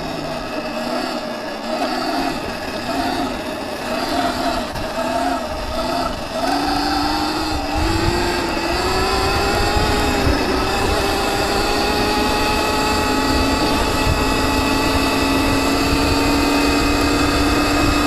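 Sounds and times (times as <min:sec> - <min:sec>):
electric motor whining: 0:00.0 - 0:18.0
wind and tyre rumble: 0:00.0 - 0:18.0.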